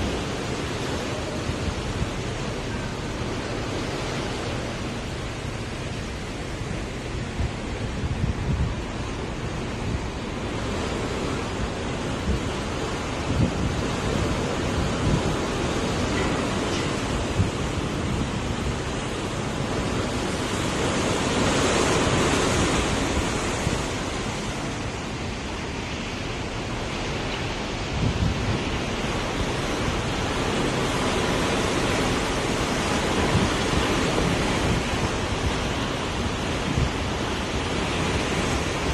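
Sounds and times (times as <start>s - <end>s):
choppy sea and boat wake: 0.0s - 38.9s
wind buffeting microphone: 0.0s - 38.9s.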